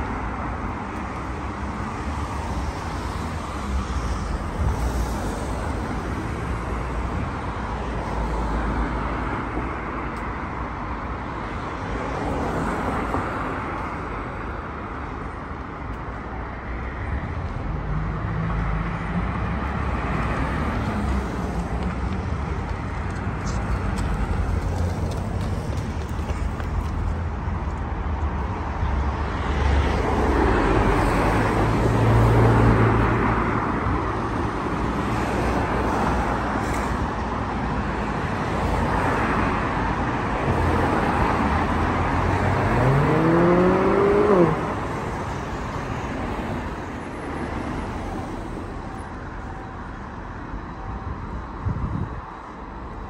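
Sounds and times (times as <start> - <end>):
rumble of cars: 0.0 - 53.0
vehicles passing close by: 0.0 - 53.0.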